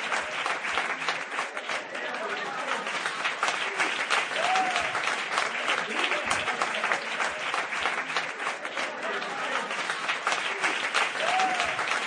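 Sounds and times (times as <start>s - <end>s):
crowd clapping: 0.0s - 12.0s
voices cheering: 0.0s - 12.0s.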